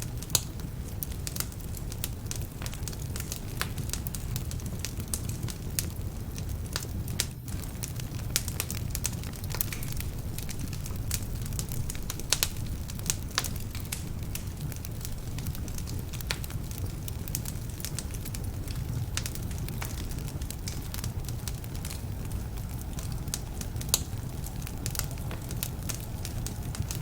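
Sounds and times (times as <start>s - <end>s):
wood fire burning: 0.0s - 27.0s.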